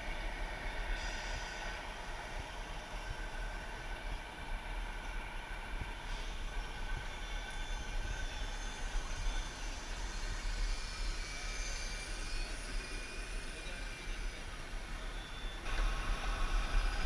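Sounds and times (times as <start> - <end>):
model trucks running: 0.0 - 17.0.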